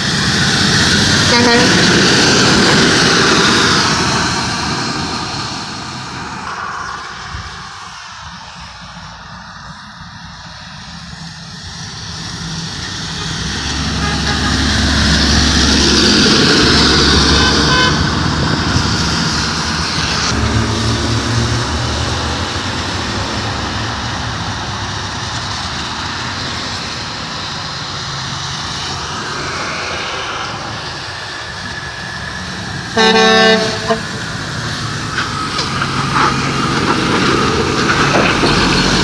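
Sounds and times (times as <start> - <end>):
diesel truck engine: 0.0 - 39.0
tyres hissing on wet road: 0.0 - 39.0.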